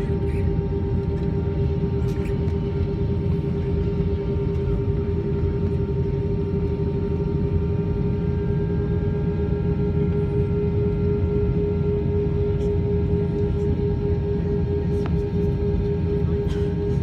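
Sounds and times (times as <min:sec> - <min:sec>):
jet engine low rumble: 0:00.0 - 0:17.0
steady whine: 0:00.0 - 0:17.0.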